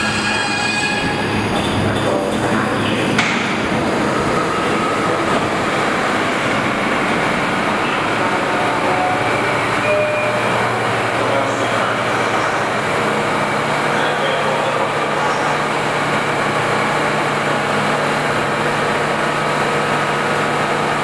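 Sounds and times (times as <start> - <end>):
subway train equipment hum: 0.0 - 21.0.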